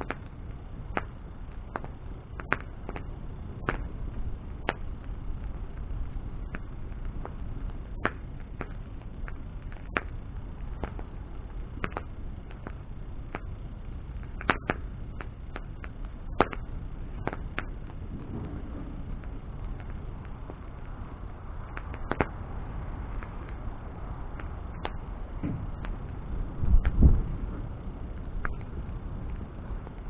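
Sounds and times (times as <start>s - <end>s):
crackles and pops of burning wood: 0.0s - 30.0s
low rush of flame: 0.0s - 30.0s.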